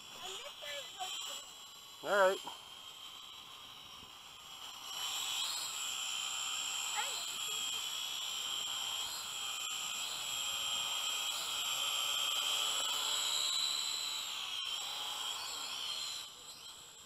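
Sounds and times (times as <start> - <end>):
toy drone motors whining: 0.0 - 17.0.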